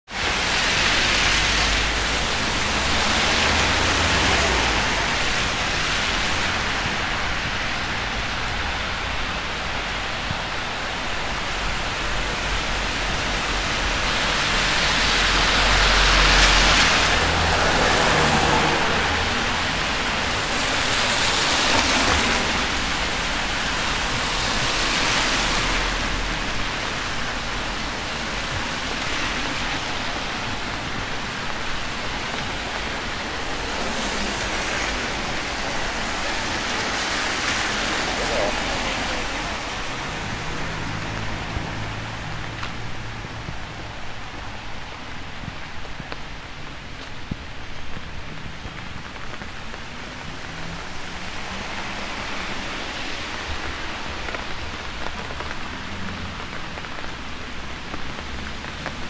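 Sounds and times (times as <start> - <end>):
car tyres swishing on wet road: 0.1 - 59.0
steady rain hiss: 0.1 - 59.0.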